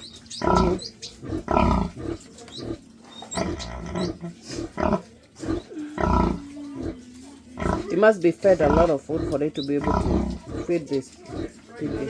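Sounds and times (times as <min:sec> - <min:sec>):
piglets squeaking: 0:00.0 - 0:12.0
pigs grunting: 0:00.0 - 0:12.0.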